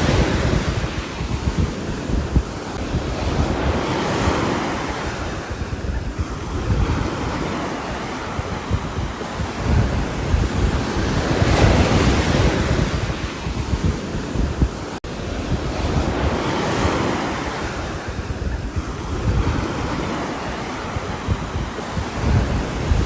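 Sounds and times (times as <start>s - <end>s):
rain and wind rushing: 0.0s - 23.0s.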